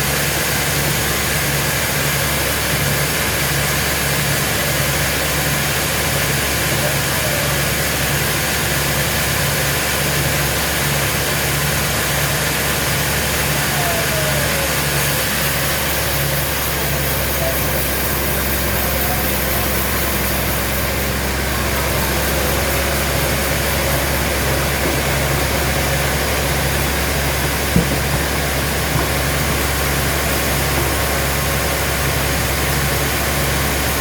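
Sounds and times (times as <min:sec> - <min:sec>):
sawmill machinery running: 0:00.0 - 0:34.0.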